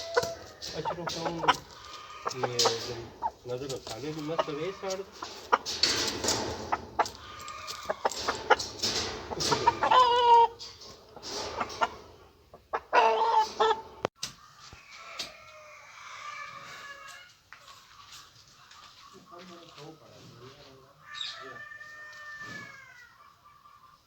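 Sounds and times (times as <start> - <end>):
chickens clucking and squawking: 0.0 - 24.0.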